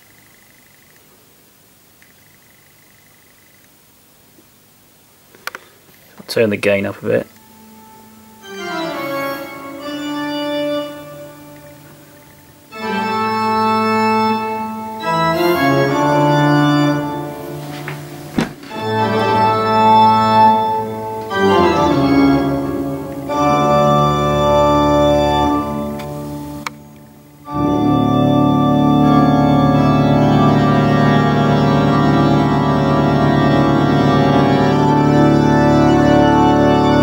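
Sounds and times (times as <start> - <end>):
organ music with held chords: 7.1 - 37.0.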